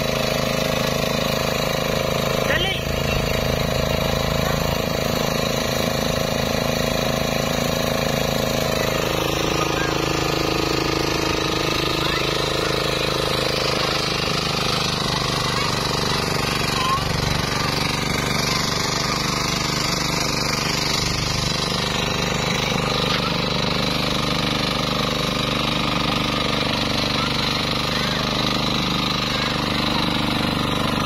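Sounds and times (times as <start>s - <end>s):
small engine running steadily: 0.0s - 31.0s
wheel churning through mud: 0.0s - 31.0s.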